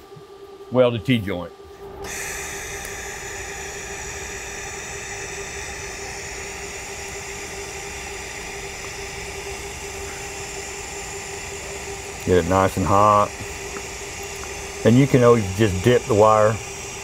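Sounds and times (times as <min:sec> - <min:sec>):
faint steady hum: 0:00.0 - 0:17.0
welding arc hissing: 0:02.0 - 0:17.0.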